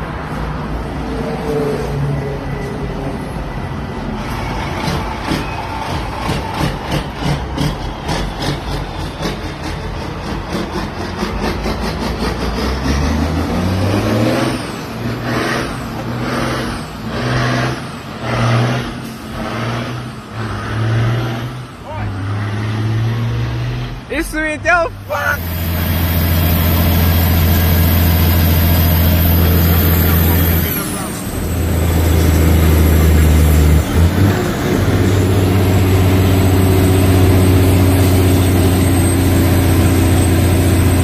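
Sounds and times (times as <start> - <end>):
diesel truck engine running: 2.4 - 22.6, 24.9 - 41.0.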